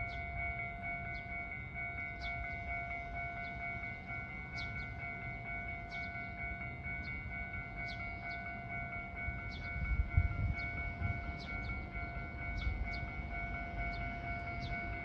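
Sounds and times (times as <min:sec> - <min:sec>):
railway warning signal ringing: 0:00.0 - 0:15.0.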